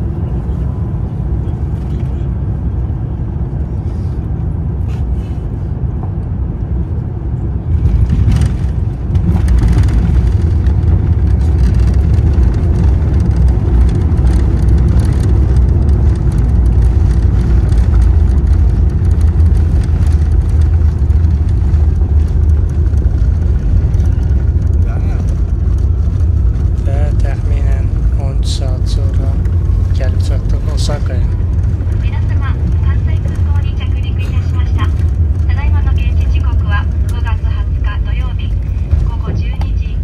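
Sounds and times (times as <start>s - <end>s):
airliner cabin rumble: 0.0s - 40.0s.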